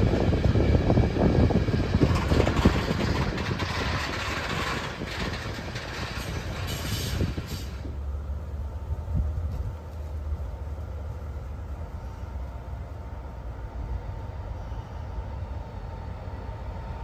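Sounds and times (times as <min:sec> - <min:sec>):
train running by: 0:00.0 - 0:17.0.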